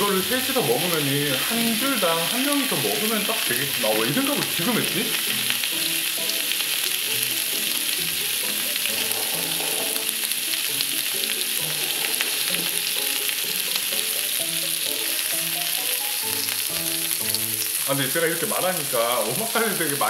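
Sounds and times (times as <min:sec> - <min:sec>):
beef sizzling on a hot griddle: 0:00.0 - 0:20.0
soft background music: 0:00.0 - 0:20.0.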